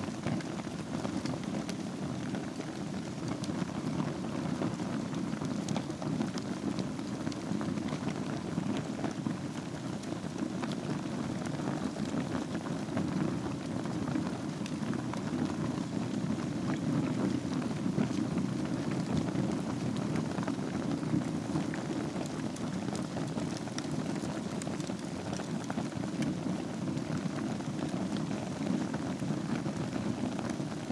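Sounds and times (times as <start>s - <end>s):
fire crackling and popping: 0.0s - 30.9s
fire flames rushing: 0.1s - 30.9s.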